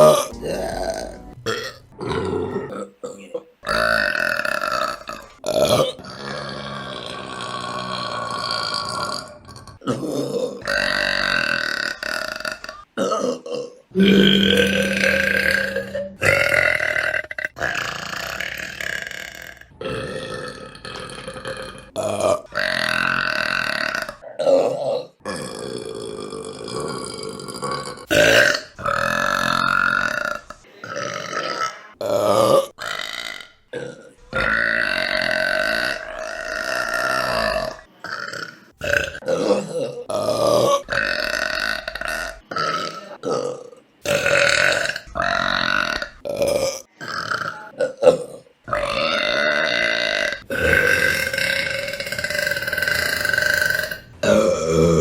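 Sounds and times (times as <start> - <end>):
woman burping: 0.0 - 55.0.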